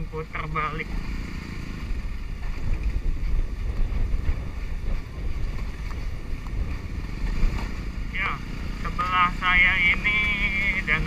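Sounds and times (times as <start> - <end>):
motorcycle engine running: 0.0 - 11.0
wind buffeting microphone: 0.8 - 11.0.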